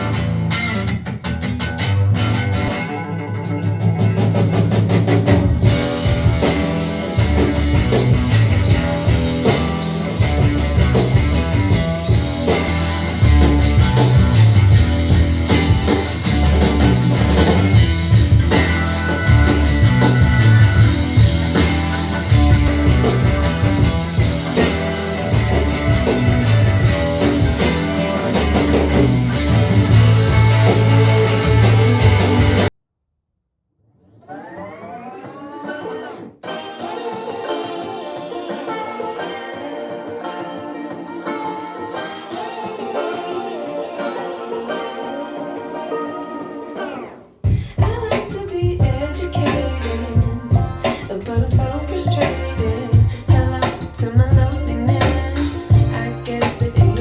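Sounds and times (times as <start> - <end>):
instrumental rock music over speakers: 0.0 - 32.7, 34.4 - 57.0.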